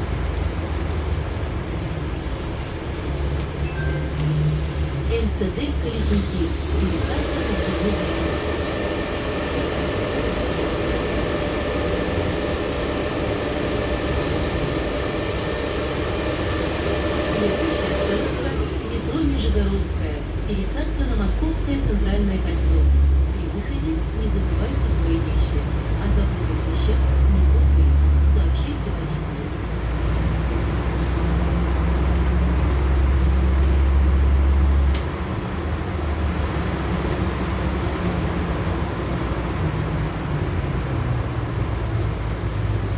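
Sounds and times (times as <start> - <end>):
bus engine drone: 0.0 - 42.9
road noise: 0.0 - 42.9.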